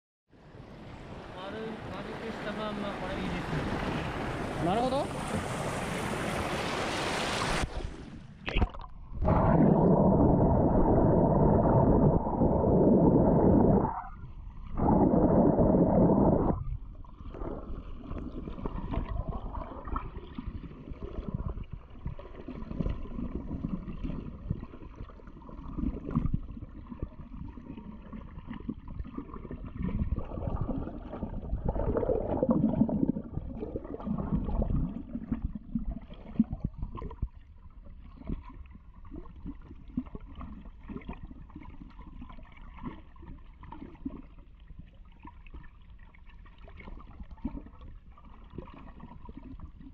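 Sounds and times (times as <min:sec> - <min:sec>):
muffled underwater sloshing: 0:00.5 - 0:49.9.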